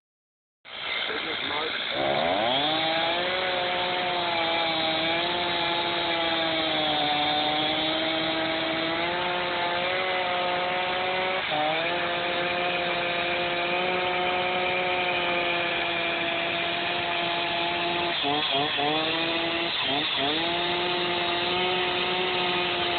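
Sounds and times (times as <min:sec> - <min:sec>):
chainsaw cutting log: 0:00.7 - 0:22.9.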